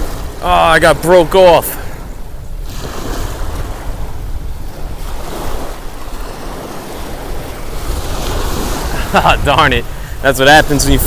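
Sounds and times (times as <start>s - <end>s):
waves washing on pebble beach: 0.0s - 11.0s
wind rumbling on microphone: 0.0s - 11.0s.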